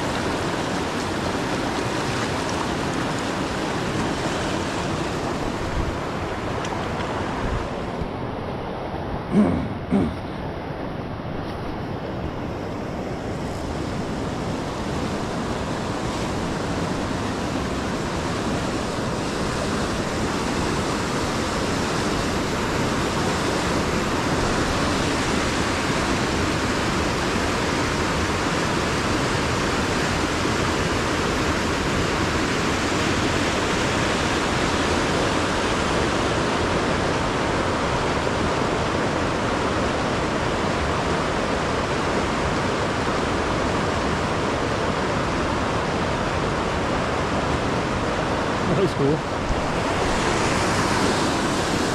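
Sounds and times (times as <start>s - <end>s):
river rushing over rocks: 0.0s - 51.9s.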